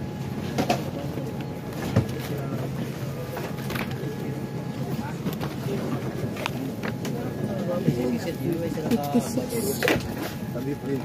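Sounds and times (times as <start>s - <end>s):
airliner cabin air system hum: 0.0s - 11.0s
passenger chatter: 0.0s - 11.0s.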